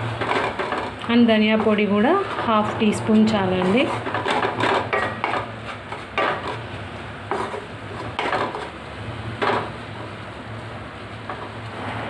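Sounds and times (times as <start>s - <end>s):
wooden spatula scraping frying pan: 0.0s - 10.2s, 11.1s - 12.0s.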